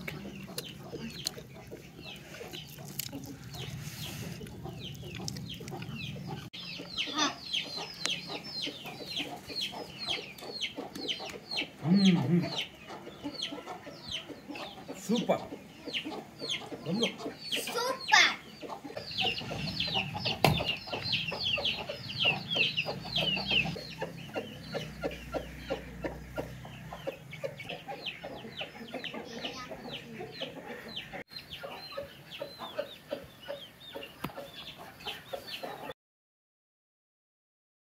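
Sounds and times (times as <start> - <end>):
bird clucking calls: 0.0 - 35.9.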